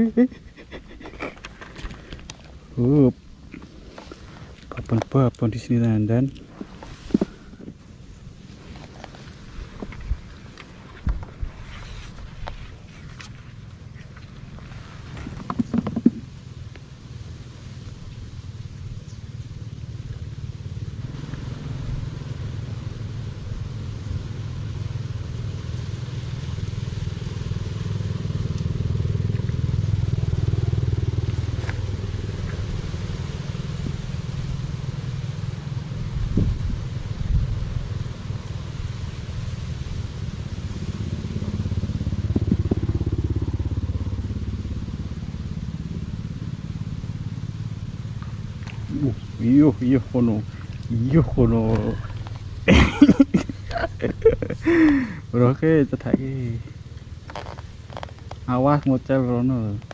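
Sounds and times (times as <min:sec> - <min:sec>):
road traffic rumble: 0:00.0 - 0:59.9
vehicles passing: 0:00.0 - 0:59.9.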